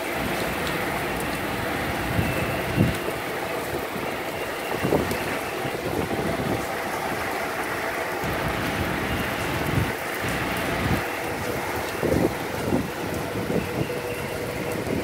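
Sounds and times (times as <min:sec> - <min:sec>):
heavy rain on deck: 0:00.0 - 0:15.0
storm wind: 0:00.0 - 0:15.0
wind gusts buffeting microphone: 0:00.0 - 0:15.0.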